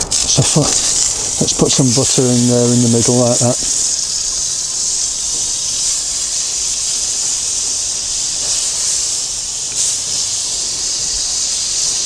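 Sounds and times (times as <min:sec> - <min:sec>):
butter sizzling on hot plate: 0:00.0 - 0:12.0.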